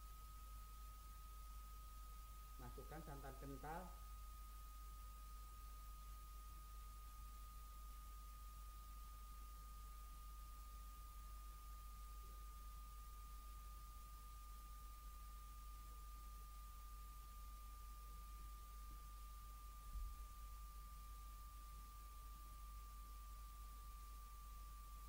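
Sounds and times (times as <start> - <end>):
faint high whine: 0.0 - 25.0.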